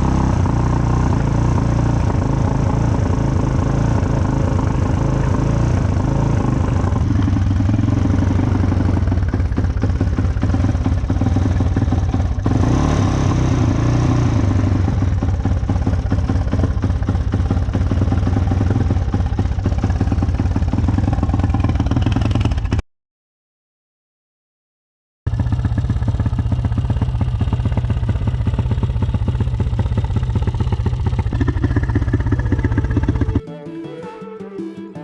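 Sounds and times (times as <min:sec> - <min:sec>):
quad engine running: 0:00.0 - 0:22.8, 0:25.3 - 0:33.5.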